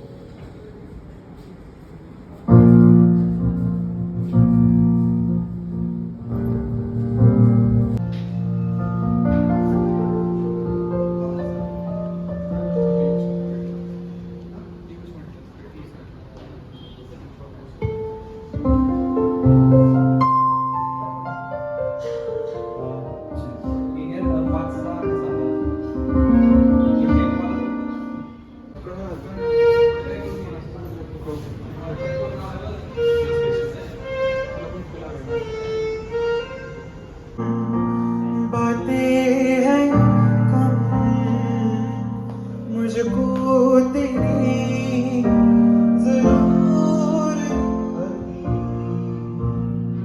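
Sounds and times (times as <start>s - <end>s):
keyboard playing sustained chords: 2.5s - 15.5s, 17.9s - 31.0s, 31.8s - 50.0s.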